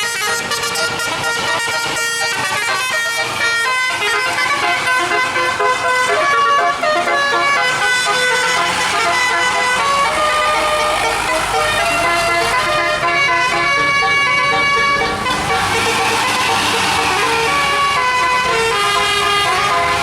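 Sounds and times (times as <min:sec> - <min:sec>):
multi-tone musical bus horn: 0:00.0 - 0:20.0.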